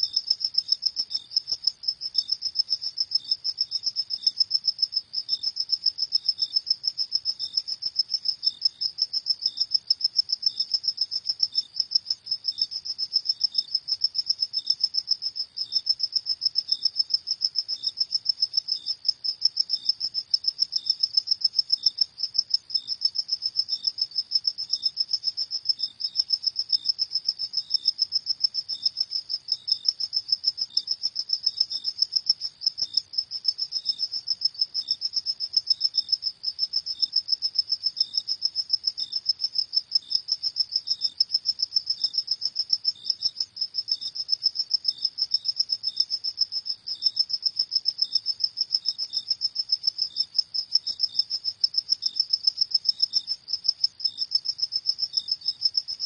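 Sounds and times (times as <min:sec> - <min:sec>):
faint slow cricket chirping: 0:00.0 - 0:56.0.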